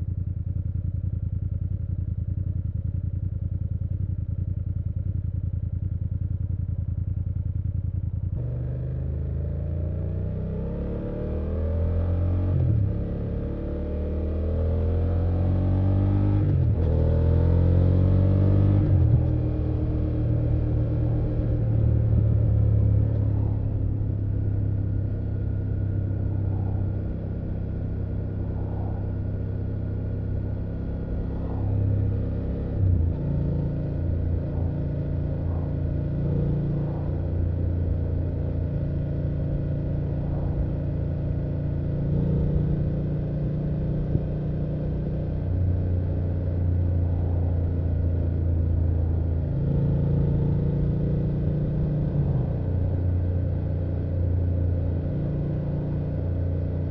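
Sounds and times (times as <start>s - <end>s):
motorcycle engine running: 0.0s - 11.1s, 16.5s - 56.9s.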